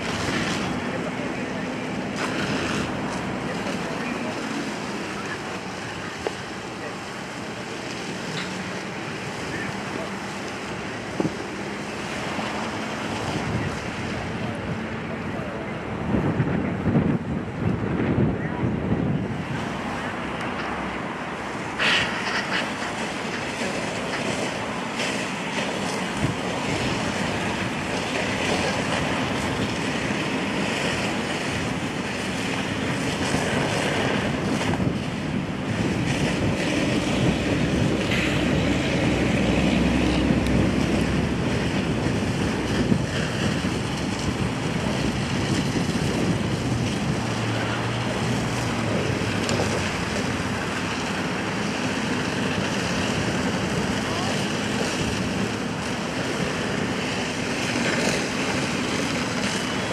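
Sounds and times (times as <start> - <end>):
fire hoses spraying water: 0.0 - 59.9.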